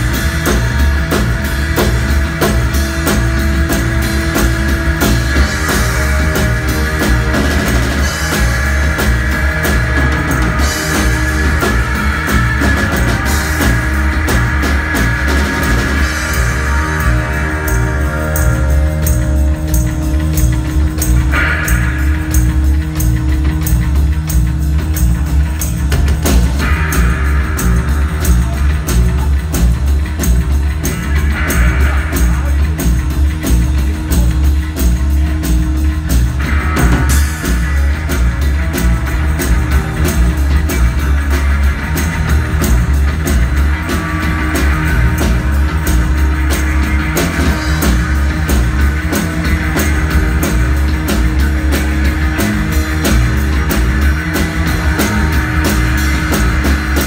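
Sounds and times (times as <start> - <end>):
bass guitar: 0.0 - 57.0
drum kit steady beat: 0.0 - 57.0
electric guitars: 0.0 - 57.0
keyboards: 0.0 - 57.0.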